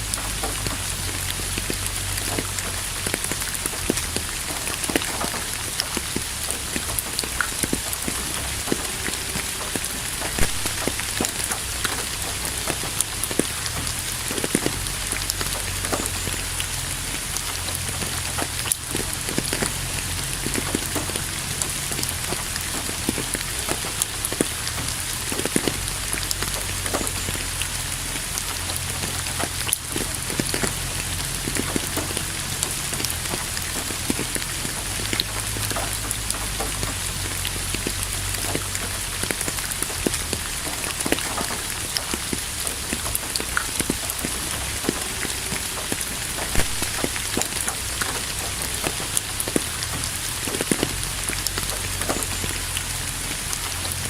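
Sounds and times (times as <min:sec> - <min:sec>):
rain falling: 0:00.0 - 0:54.0
raindrops ticking on a surface: 0:00.0 - 0:54.0.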